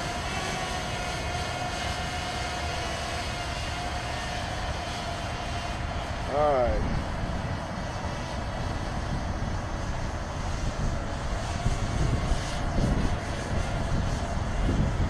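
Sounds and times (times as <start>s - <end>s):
drone propellers humming: 0.0s - 15.0s
wind buffeting microphone: 0.0s - 15.0s.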